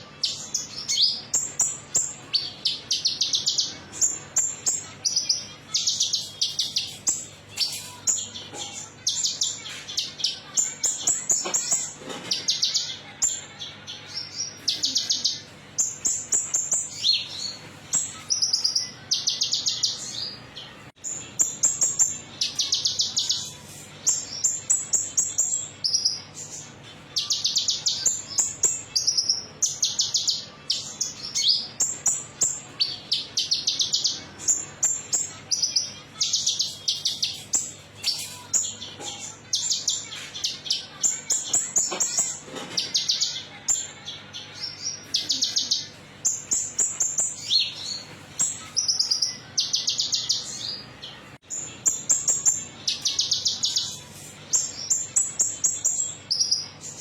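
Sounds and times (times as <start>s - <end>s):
bird singing trills and chirps: 0.0s - 57.0s.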